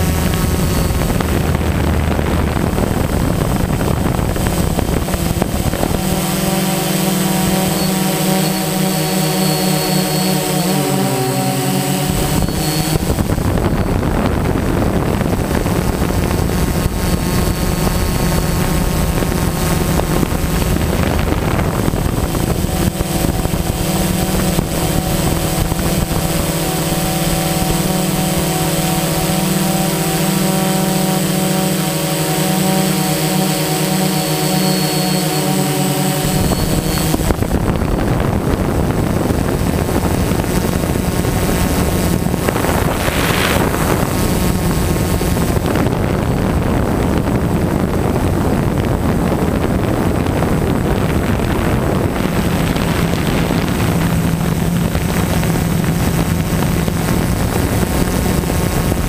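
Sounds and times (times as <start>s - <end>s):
drone propellers humming: 0.0s - 59.0s
rough rushing noise: 0.0s - 59.0s.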